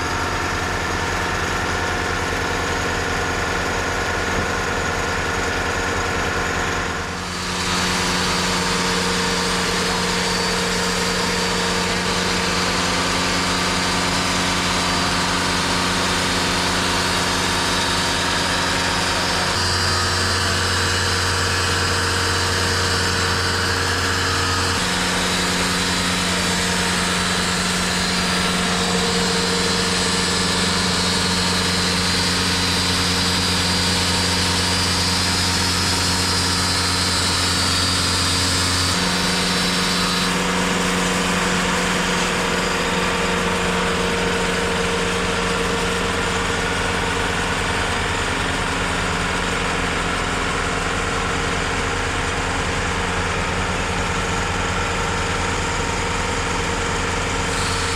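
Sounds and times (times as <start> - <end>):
sawmill engine running: 0.0 - 57.9.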